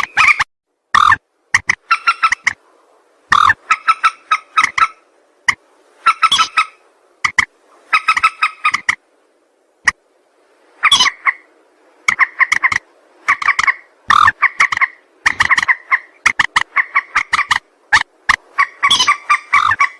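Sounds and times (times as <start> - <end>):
rail bird calling: 0.0 - 0.4, 1.0 - 9.0, 10.8 - 19.9.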